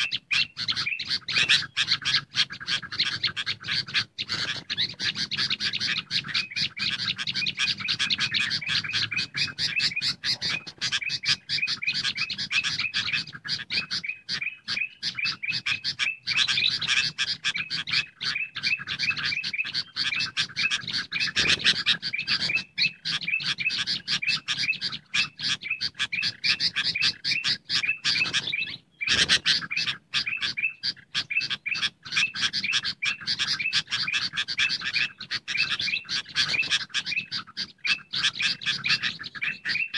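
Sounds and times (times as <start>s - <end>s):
bird calls: 0.0s - 39.9s
birds chattering: 0.0s - 39.9s.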